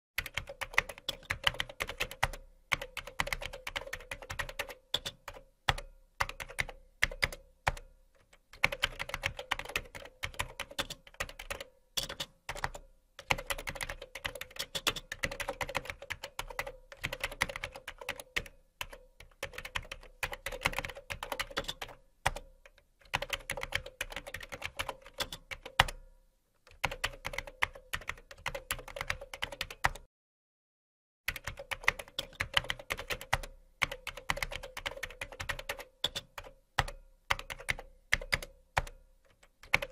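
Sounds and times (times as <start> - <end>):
typing on computer keyboard: 0.2 - 26.0, 26.7 - 30.1, 31.3 - 39.9.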